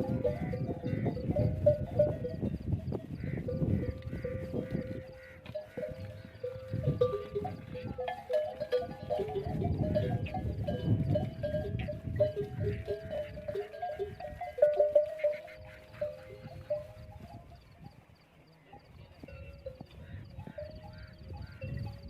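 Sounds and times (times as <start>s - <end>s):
camel bells clanking: 0.0s - 17.8s, 18.8s - 22.0s.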